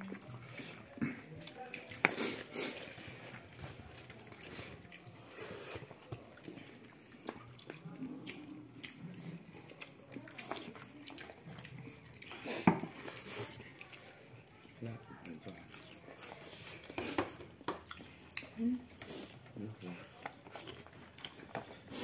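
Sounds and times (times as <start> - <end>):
fingers squishing rice and curry: 0.0 - 22.0.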